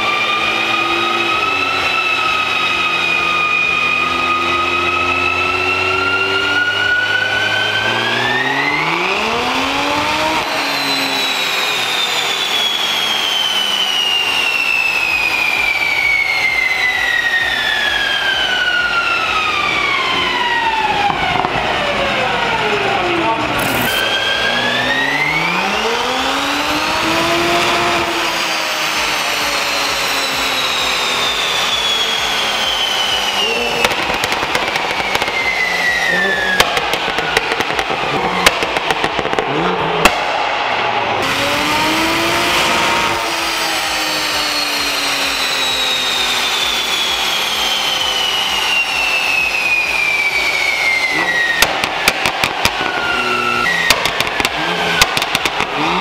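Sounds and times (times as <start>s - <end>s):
turbocharged car engine revving: 0.0s - 56.0s.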